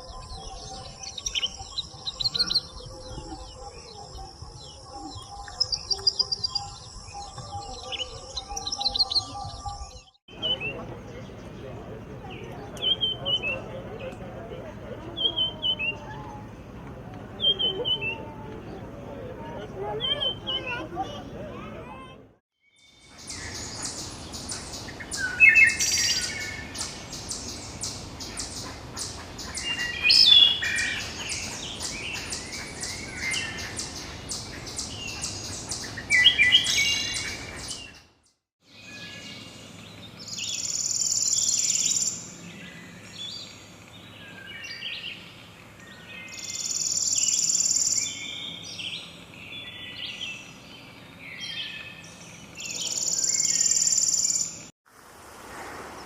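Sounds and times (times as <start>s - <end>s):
songbirds chirping: 0.0s - 54.7s.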